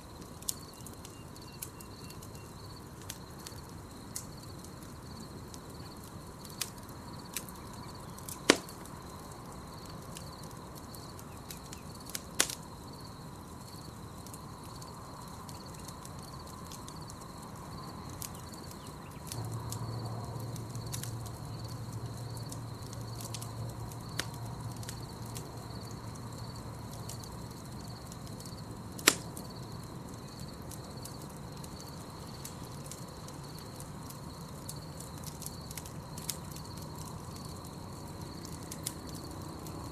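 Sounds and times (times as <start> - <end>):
campfire crackling and popping: 0.0 - 39.9
high insect trill: 0.0 - 39.9.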